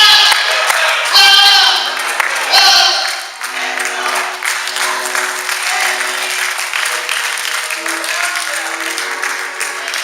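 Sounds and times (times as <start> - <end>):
congregation applauding: 0.0 - 10.0
held instrumental chords: 1.9 - 10.0.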